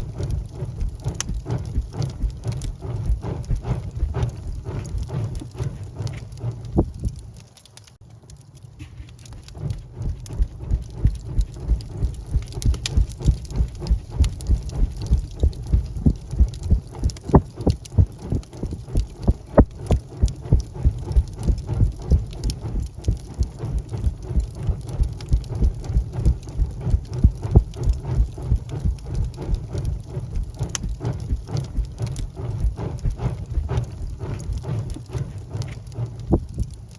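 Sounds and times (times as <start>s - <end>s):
low fluttering rumble of flames: 0.0s - 36.9s
wood fire crackling and popping: 0.0s - 36.9s.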